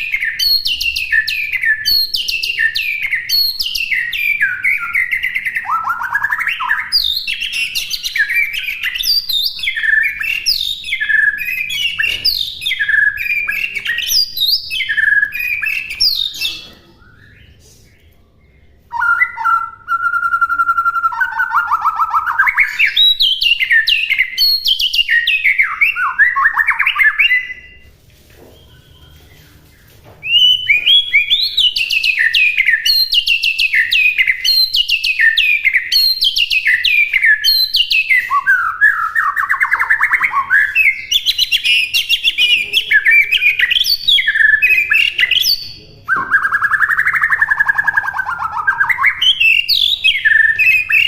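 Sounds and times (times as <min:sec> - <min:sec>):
bird singing whistled phrases: 0:00.0 - 0:17.6, 0:18.9 - 0:27.8, 0:30.2 - 0:51.0.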